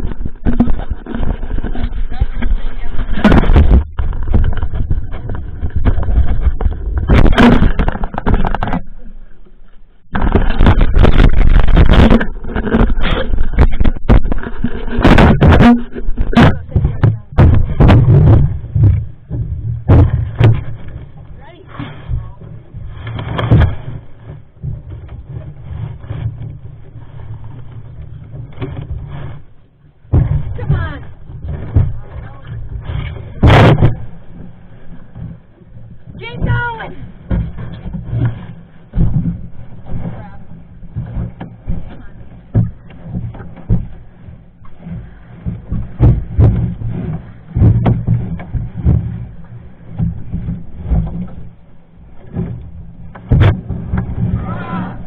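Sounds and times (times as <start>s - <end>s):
irregular knocks and thumps: 0.0s - 55.0s.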